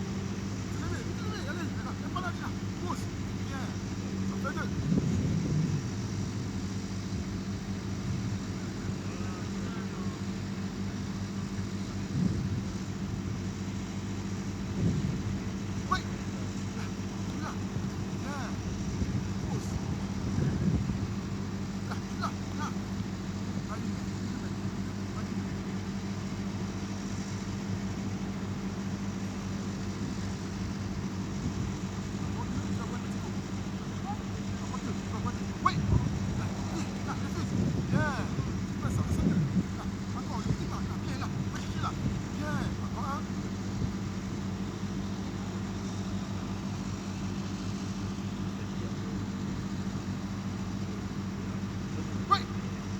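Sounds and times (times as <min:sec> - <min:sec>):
background rush: 0:00.0 - 0:47.4
low mechanical hum: 0:00.0 - 0:52.9.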